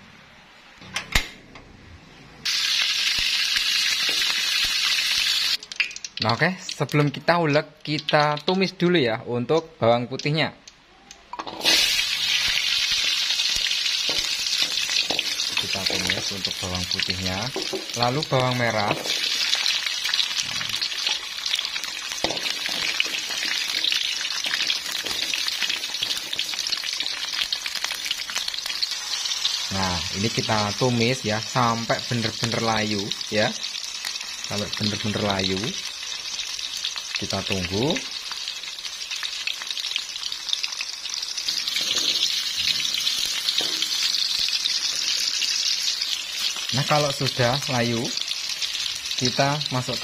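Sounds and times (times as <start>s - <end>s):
garlic sizzling in hot oil: 2.4s - 7.2s, 11.3s - 50.0s.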